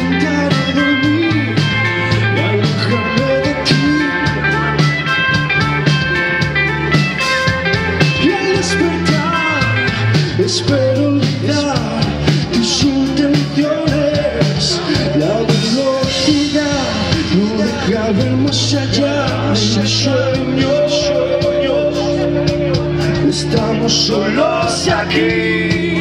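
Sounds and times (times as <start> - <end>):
person singing into microphone: 0.0 - 4.8, 8.0 - 26.0
drums keeping a beat: 0.0 - 26.0
electric guitar: 0.0 - 26.0
keyboards: 0.0 - 26.0.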